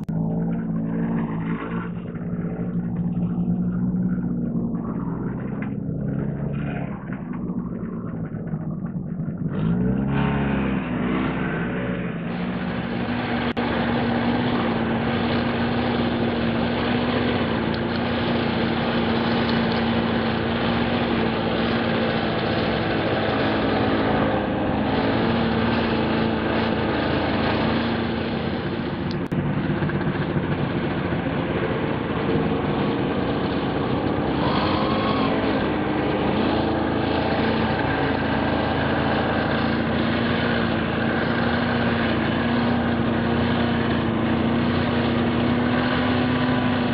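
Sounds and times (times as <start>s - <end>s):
snowmobile engine revving: 0.0s - 46.9s.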